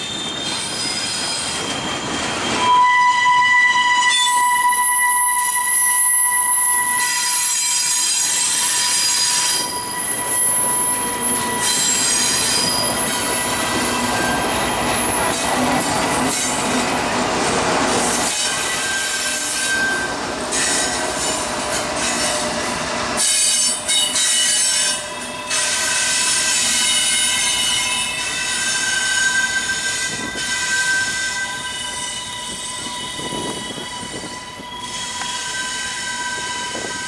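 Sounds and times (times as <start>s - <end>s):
train wheels squealing on rail: 0.0s - 37.0s.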